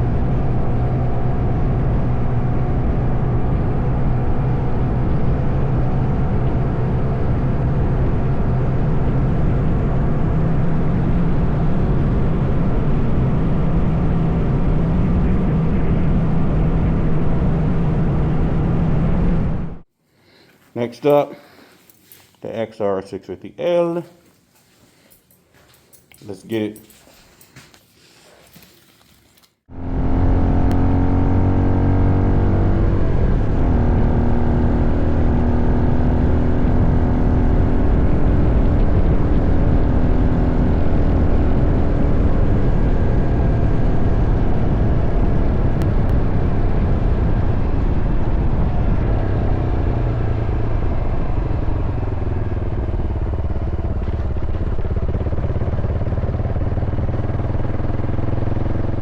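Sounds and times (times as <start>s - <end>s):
motorcycle engine accelerating: 0.0s - 19.8s, 29.7s - 59.0s.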